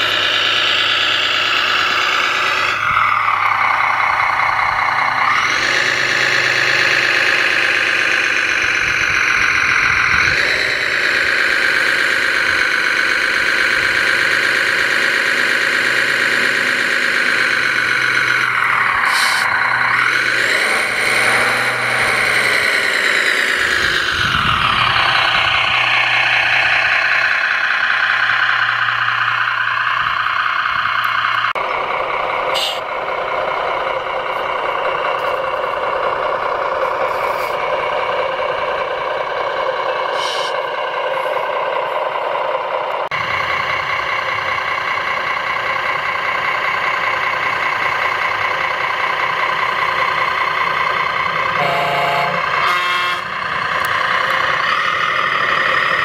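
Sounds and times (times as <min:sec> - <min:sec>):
model crane mechanical whine: 0:00.0 - 0:56.0.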